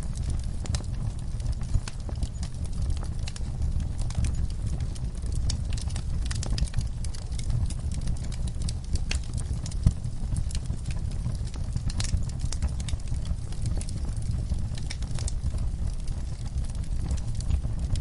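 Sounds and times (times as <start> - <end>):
fire popping and snapping: 0.0 - 18.0
wood fire crackling: 0.0 - 18.0.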